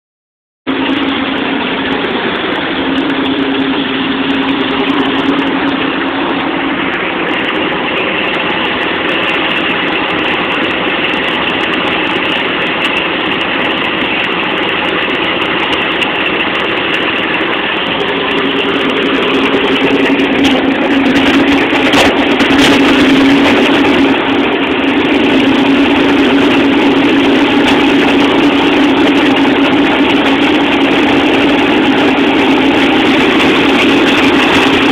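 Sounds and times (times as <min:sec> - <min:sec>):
propeller plane engines idling: 0:00.7 - 0:34.9.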